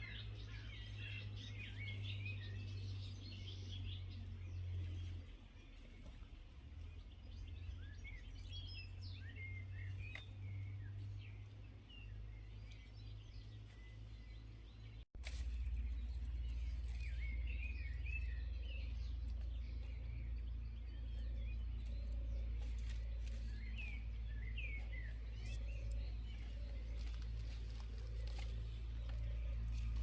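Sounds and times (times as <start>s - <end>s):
low outdoor rumble: 0.0s - 30.0s
small birds chirping: 0.0s - 30.0s.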